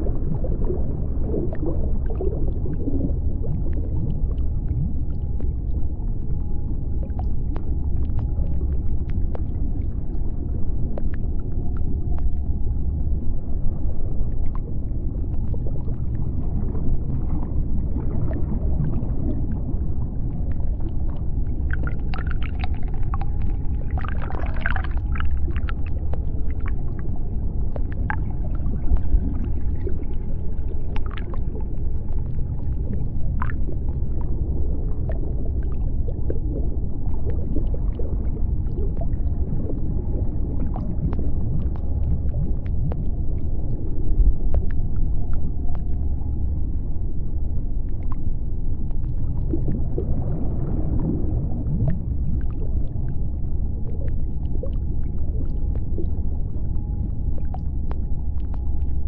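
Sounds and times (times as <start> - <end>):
high bright underwater sounds: 0.0 - 59.0
underwater low rumble: 0.0 - 59.0
short underwater clicks and crackles: 0.1 - 59.0.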